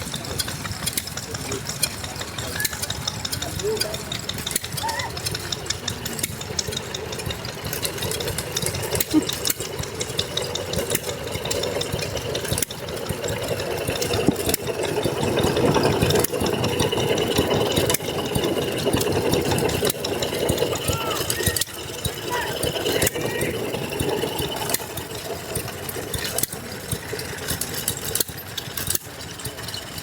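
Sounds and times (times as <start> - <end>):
stationary engines clattering: 0.0 - 30.0.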